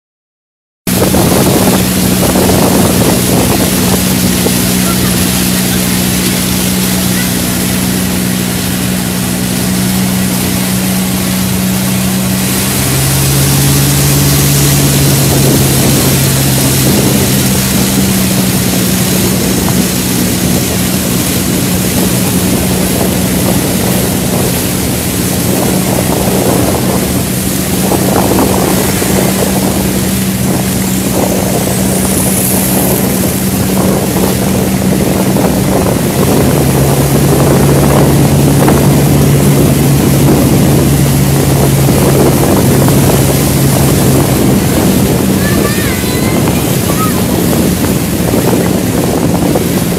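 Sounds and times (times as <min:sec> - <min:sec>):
motorboat engine running: 0:00.8 - 0:49.9
wind buffeting microphone: 0:00.8 - 0:49.9
water rushing past hull: 0:00.9 - 0:49.9.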